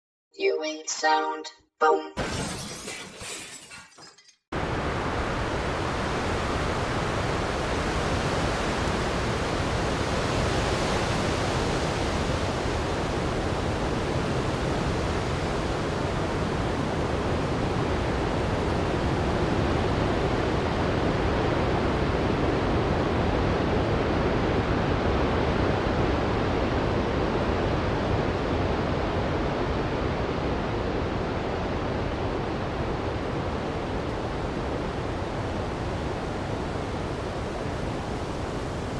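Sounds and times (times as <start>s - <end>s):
storm wind blowing: 4.6s - 38.9s.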